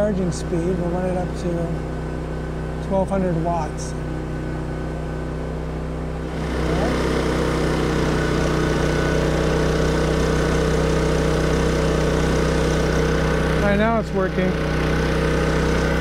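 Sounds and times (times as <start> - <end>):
generator engine hum: 0.0 - 16.0.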